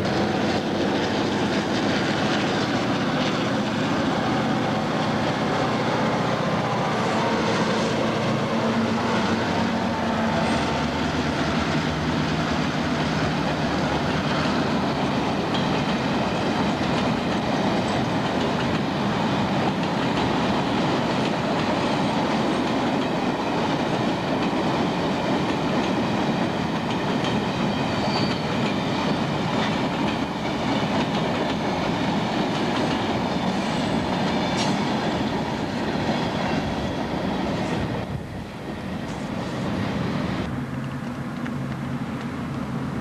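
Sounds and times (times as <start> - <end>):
train wheels rolling on rails: 0.0 - 43.0.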